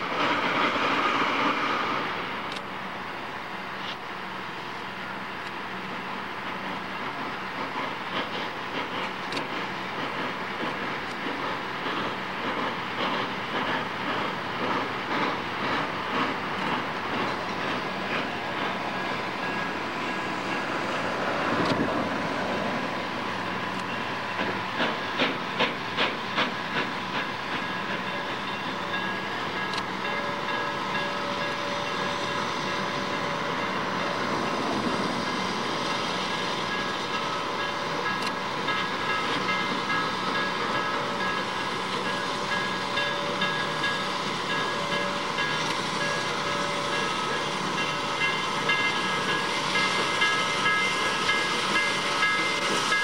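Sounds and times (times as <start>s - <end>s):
steam hiss: 0.0s - 53.0s.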